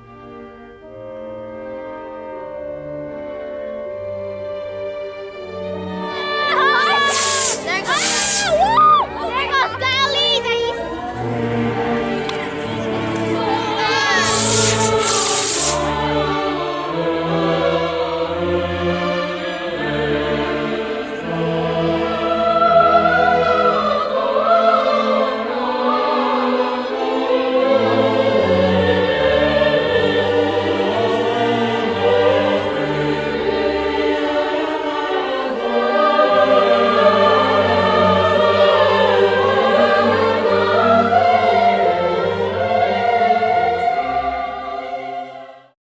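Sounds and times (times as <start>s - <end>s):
choral and orchestral music: 0.0s - 45.8s.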